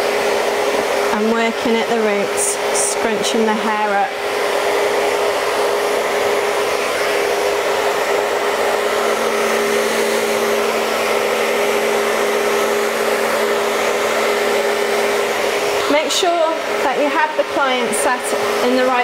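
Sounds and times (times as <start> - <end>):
hair dryer running: 0.0 - 19.0.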